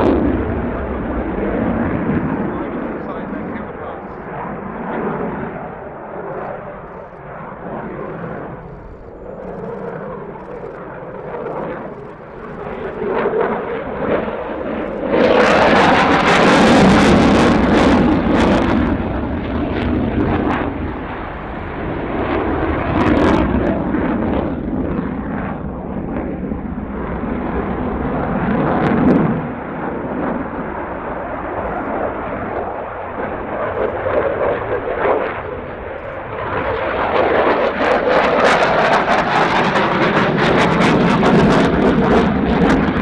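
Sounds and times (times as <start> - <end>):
jet engine roar: 0.0 - 43.0.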